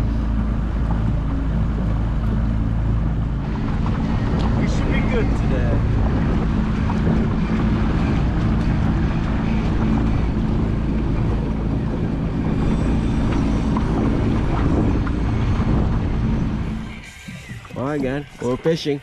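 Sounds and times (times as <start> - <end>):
wind across microphone: 0.0 - 18.4
motorboat engine running: 0.0 - 19.0.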